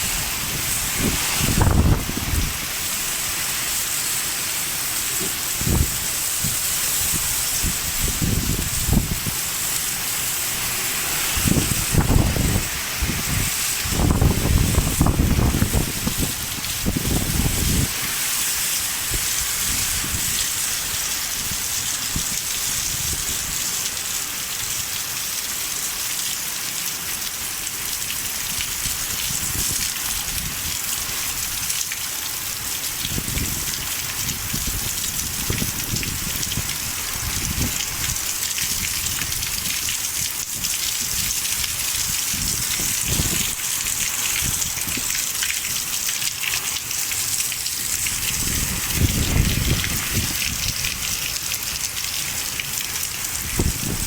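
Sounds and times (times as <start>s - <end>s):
wind gusts: 0.0s - 23.7s, 33.0s - 46.0s, 47.2s - 54.0s
torrential rain: 0.0s - 54.0s.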